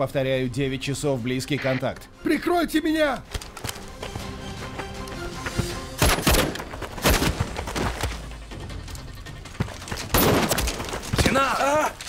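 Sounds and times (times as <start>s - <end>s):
background score music: 0.0s - 12.0s.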